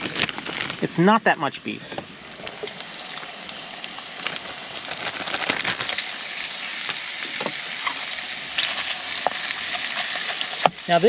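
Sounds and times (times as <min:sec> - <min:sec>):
meat sizzling in a pan: 0:02.1 - 0:11.0.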